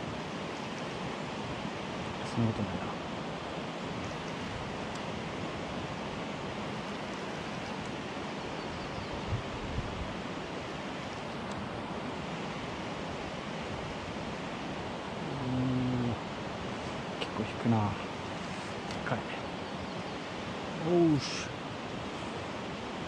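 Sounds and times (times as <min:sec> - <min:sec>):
fast-flowing river rushing: 0:00.0 - 0:23.0.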